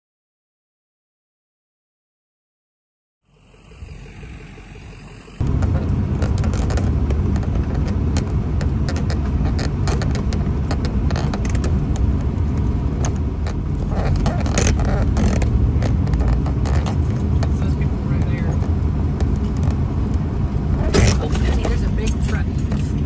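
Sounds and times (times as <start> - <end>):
vehicle driving on gravel: 3.3 - 23.0.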